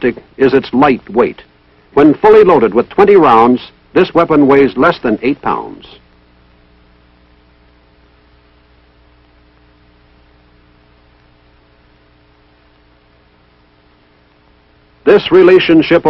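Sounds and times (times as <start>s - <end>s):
faint electrical hum with hiss: 0.0s - 16.0s.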